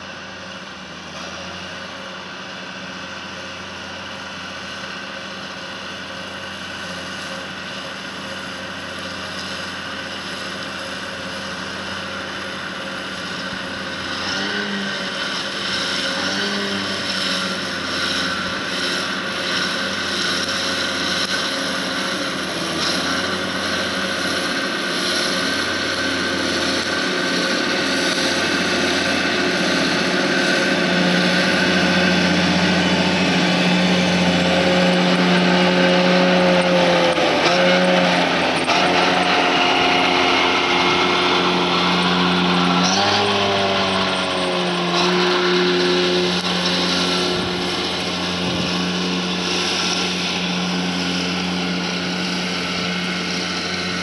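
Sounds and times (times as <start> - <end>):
mower whine: 0.0 - 54.0
tractor engine drone: 0.0 - 54.0.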